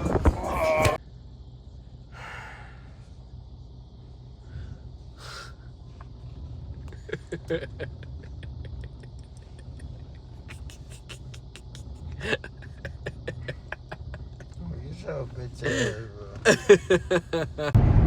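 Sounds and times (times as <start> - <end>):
car cabin rumble: 3.0 - 18.0.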